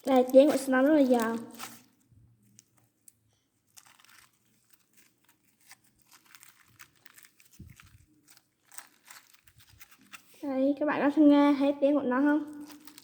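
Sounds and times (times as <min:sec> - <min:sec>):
slime crackling and popping: 0:00.0 - 0:10.3, 0:12.4 - 0:13.0.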